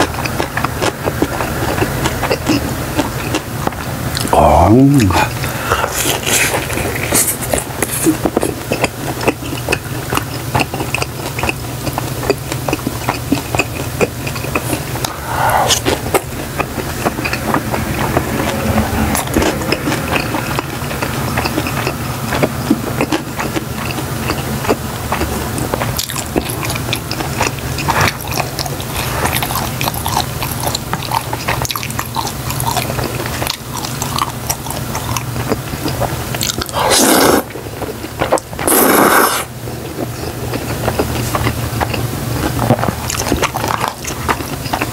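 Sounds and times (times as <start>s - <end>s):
low steady hum: 0.0s - 44.9s
person chewing food: 0.0s - 44.9s.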